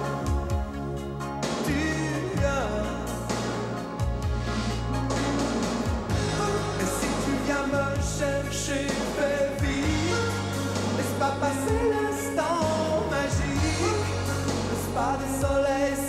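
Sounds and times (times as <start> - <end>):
pop song with bass and drums: 0.0 - 16.0
person singing: 1.5 - 16.0.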